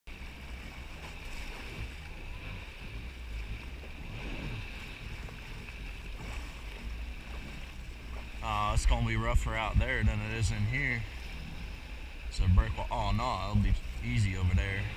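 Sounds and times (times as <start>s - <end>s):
jet ski engine rumble: 0.1s - 14.9s
water splashing along hull: 0.1s - 14.9s.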